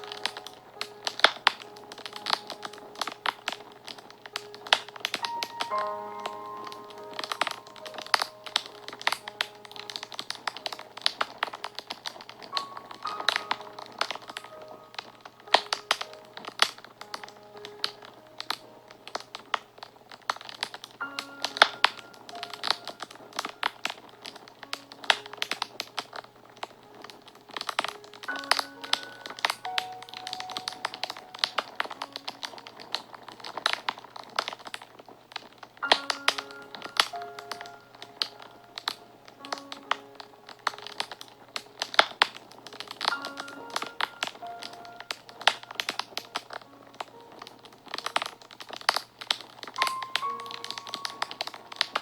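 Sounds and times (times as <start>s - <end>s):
soft background music: 0.0s - 52.0s
wood fire crackling: 0.0s - 52.0s.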